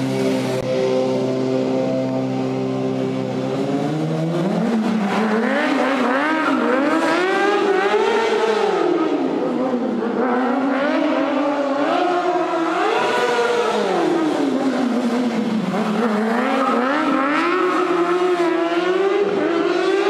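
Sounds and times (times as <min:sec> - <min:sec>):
high-revving vehicle engine: 0:00.0 - 0:20.0.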